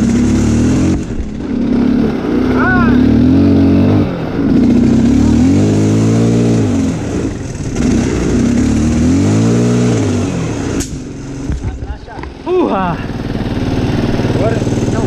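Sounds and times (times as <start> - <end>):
quad engine revving hard: 0.0 - 11.5, 12.5 - 15.0.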